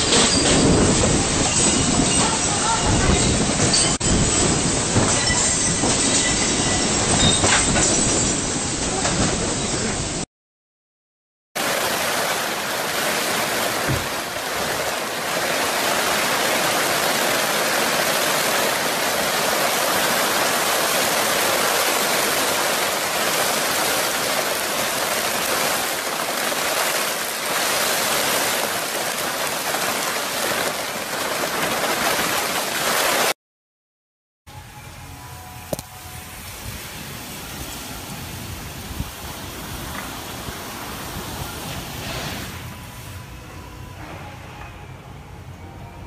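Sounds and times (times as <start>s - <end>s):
torrential rain: 0.0s - 10.3s, 11.6s - 33.4s, 36.5s - 42.8s.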